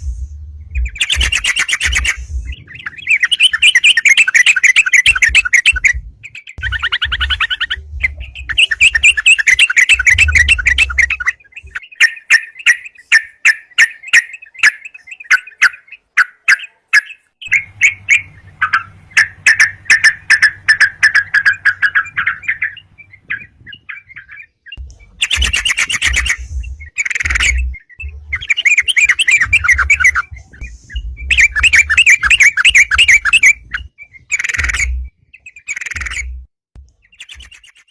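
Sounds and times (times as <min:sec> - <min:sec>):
bird song chattering notes: 0:00.0 - 0:37.9.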